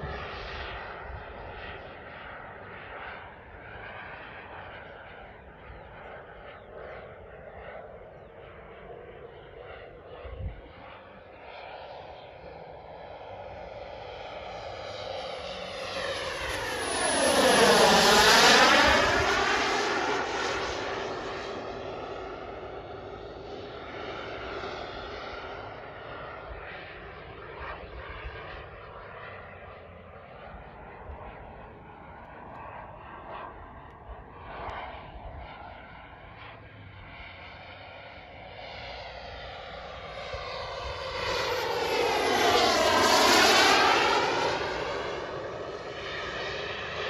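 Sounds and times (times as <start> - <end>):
model jet turbine whine: 0.0 - 47.0.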